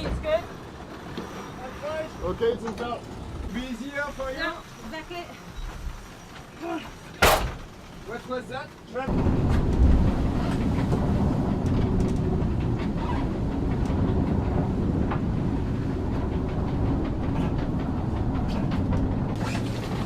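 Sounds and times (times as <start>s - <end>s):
yacht rumble and rushing water: 0.0s - 20.0s.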